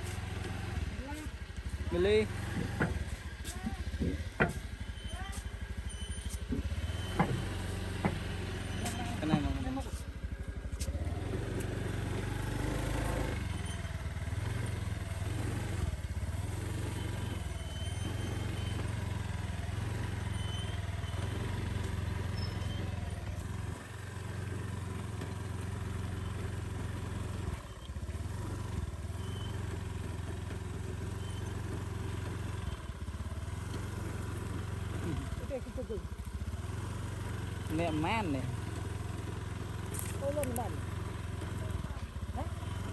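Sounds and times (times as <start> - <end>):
motorcycle engine humming: 0.0 - 42.9.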